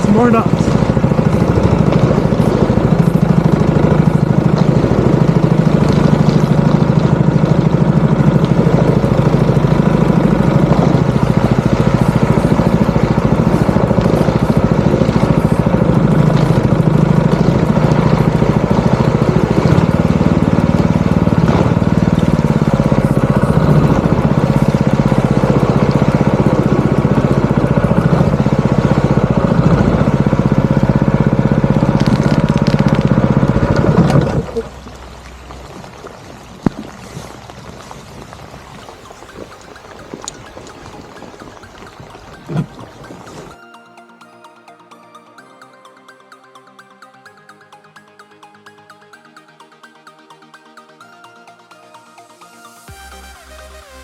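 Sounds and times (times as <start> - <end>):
small boat motor droning: 0.0 - 54.0.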